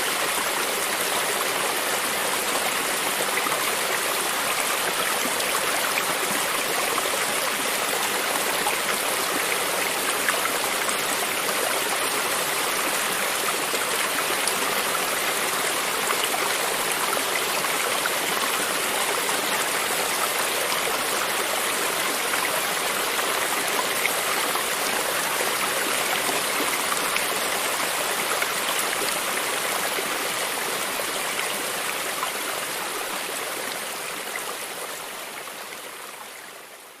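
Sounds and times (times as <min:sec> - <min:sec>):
stream rushing and splashing: 0:00.0 - 0:37.0.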